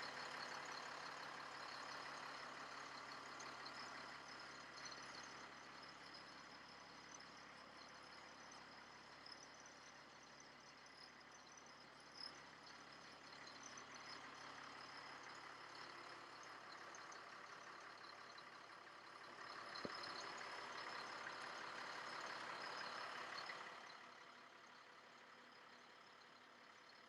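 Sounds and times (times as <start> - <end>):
faint diesel truck engine running: 0.0 - 27.0.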